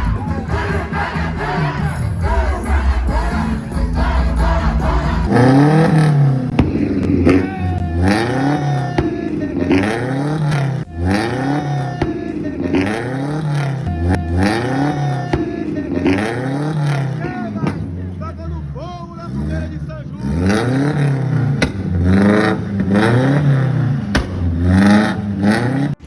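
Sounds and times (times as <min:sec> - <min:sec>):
car engine revving: 0:00.0 - 0:26.0
exhaust pops: 0:04.7 - 0:26.0.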